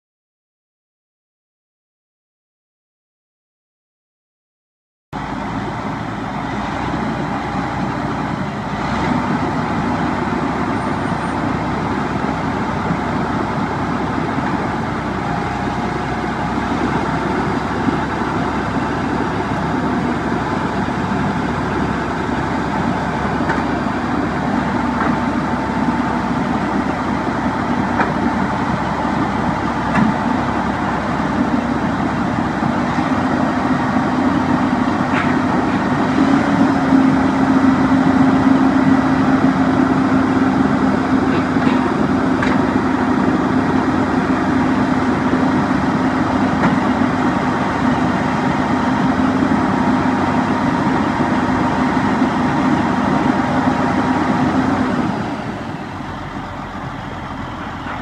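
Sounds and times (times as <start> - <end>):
diesel engine running: 5.2 - 58.0.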